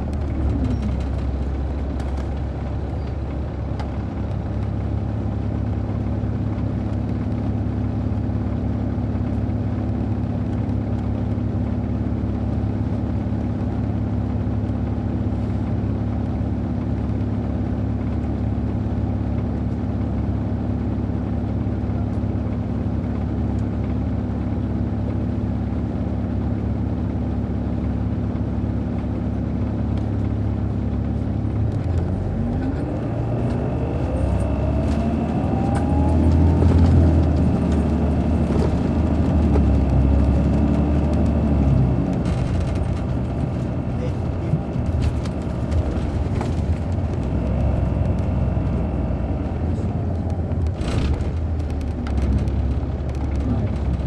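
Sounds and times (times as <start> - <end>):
diesel coach engine running: 0.0 - 54.0.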